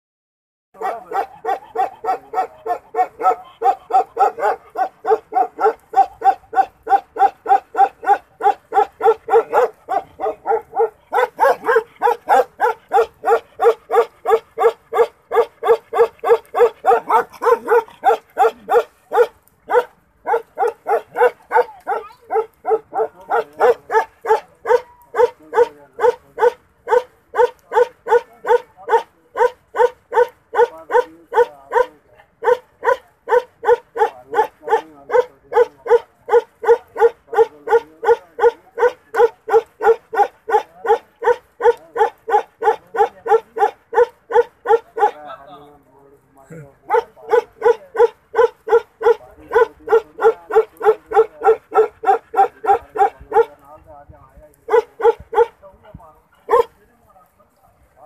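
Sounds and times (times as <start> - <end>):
dog barking: 0.8 - 45.3, 46.8 - 53.7, 54.6 - 55.6, 56.4 - 56.8.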